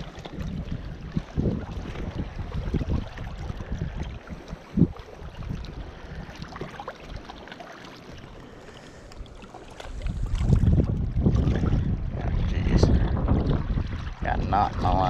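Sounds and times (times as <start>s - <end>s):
wind buffeting microphone: 0.0s - 7.2s, 9.2s - 15.0s.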